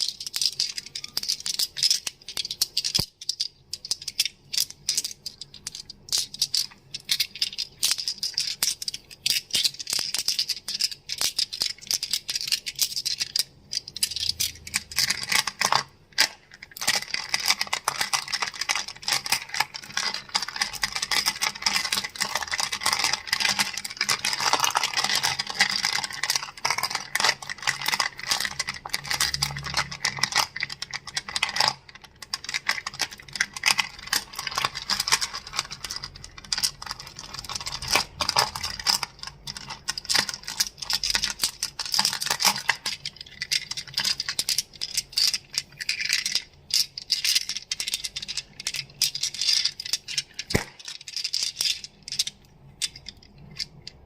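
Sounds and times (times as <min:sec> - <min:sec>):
crystals clicking together: 0:00.0 - 0:54.0.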